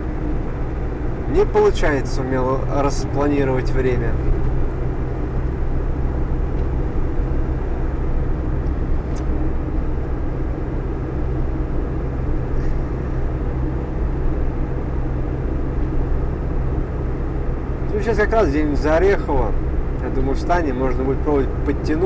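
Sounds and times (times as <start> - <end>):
road noise: 0.0 - 22.0
vehicle engine drone: 0.0 - 22.0.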